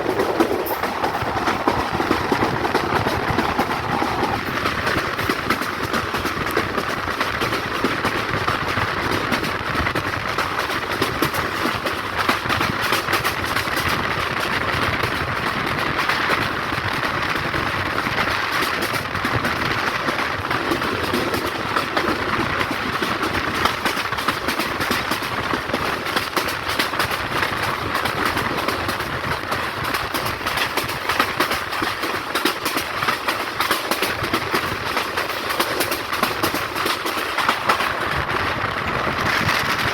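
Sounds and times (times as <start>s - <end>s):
clickety-clack of rail joints: 0.0s - 39.9s
train wheels and carriages rattling: 0.0s - 39.9s.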